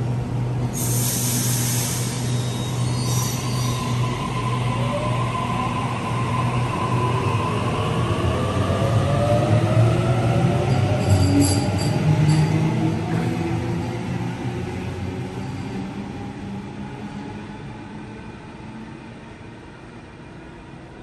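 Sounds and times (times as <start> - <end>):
train low hum: 0.0 - 21.0.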